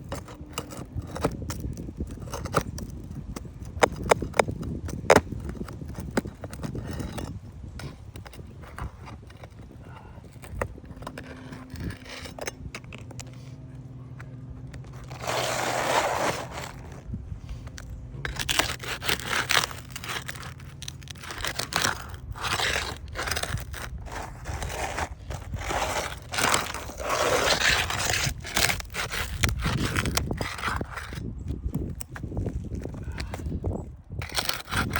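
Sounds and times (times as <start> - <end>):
shingles scraping and crunching: 0.0 - 34.9.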